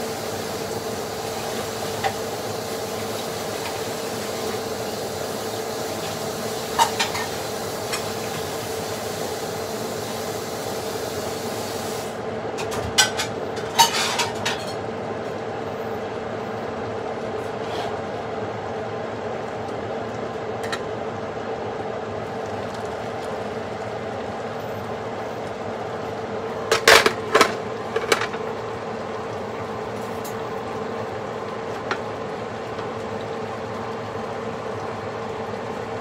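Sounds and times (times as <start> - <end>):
steady mechanical hum: 0.0 - 36.0.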